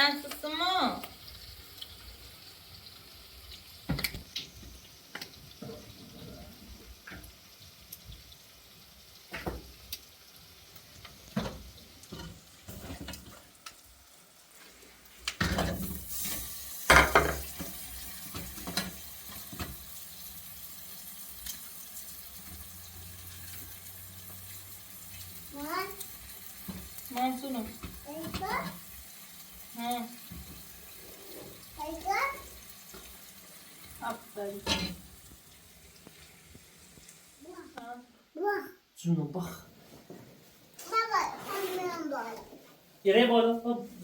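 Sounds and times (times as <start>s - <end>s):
steady watery hiss: 0.0s - 38.0s.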